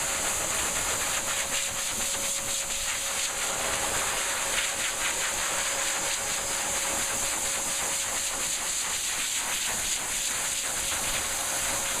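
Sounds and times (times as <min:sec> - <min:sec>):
blow dryer hissing air: 0:00.0 - 0:12.0.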